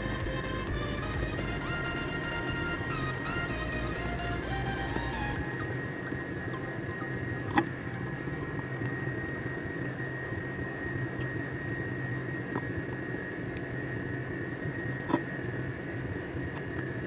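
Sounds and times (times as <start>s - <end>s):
background hum and hiss: 0.0s - 17.0s
high constant whine: 0.0s - 17.0s.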